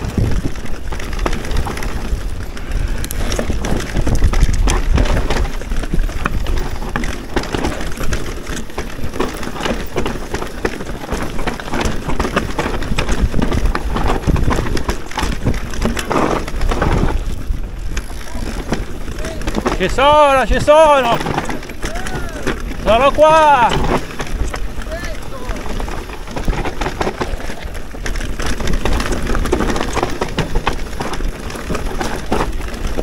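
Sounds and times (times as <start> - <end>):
bike rattling over bumps: 0.0 - 33.0
tyres rolling over rock and dirt: 0.0 - 33.0
wind buffeting microphone: 0.0 - 33.0.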